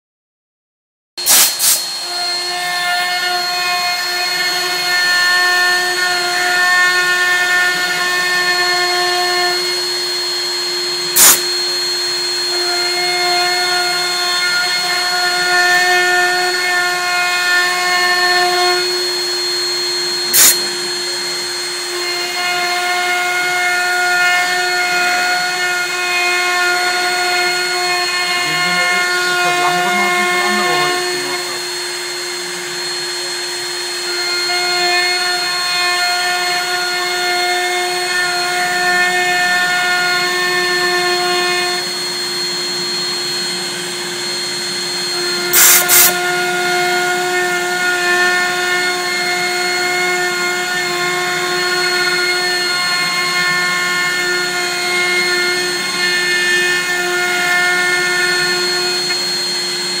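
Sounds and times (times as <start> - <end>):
router spindle whining while milling: 1.8 - 60.0.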